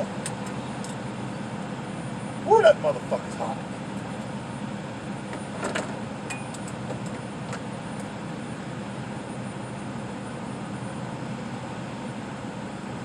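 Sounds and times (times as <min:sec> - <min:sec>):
mechanical drone with low hum: 0:00.0 - 0:13.0.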